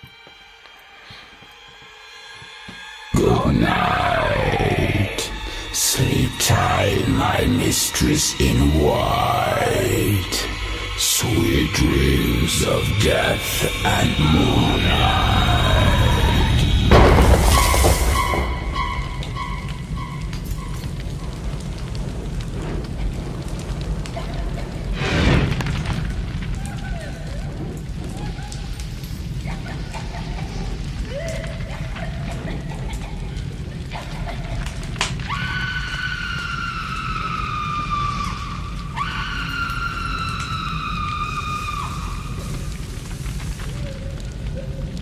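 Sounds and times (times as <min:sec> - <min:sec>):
rain and wind rumble: 0:00.0 - 0:45.0.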